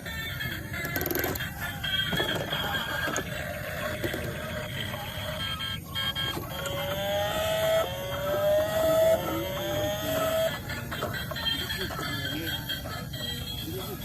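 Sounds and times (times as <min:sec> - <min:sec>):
toy motor whining: 0:00.0 - 0:14.0.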